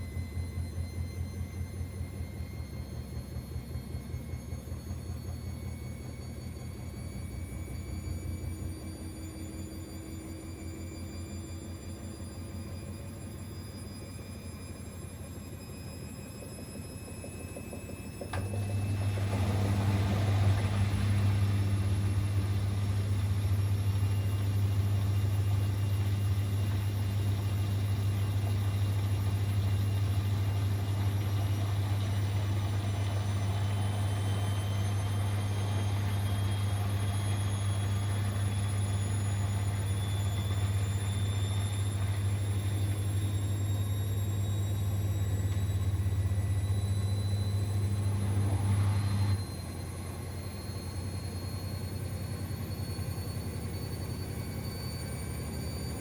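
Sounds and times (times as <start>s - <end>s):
drum motor whine: 0.0s - 56.0s
washing machine pump hum: 0.0s - 56.0s.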